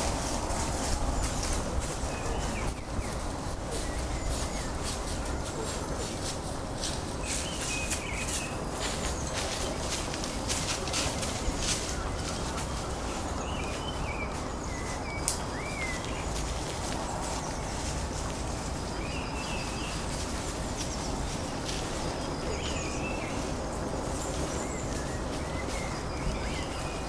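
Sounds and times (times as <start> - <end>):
birds calling: 0.0 - 27.0
steady background hiss: 0.0 - 27.0.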